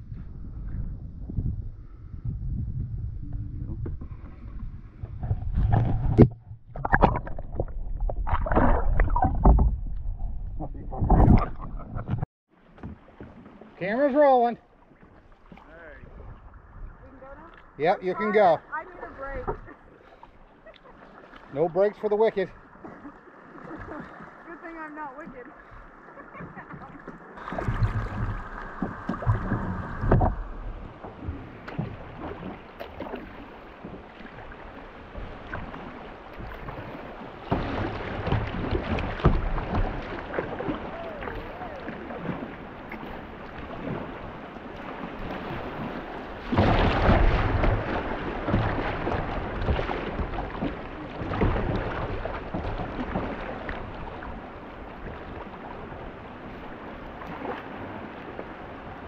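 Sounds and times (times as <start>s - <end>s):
water splashing around kayak: 0.0s - 59.0s.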